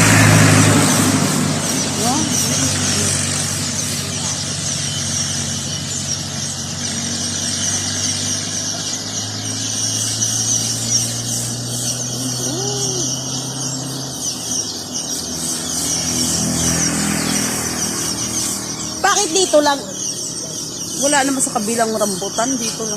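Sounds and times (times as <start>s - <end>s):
engine hum: 0.0s - 22.9s
sparrows chirping: 0.0s - 22.9s.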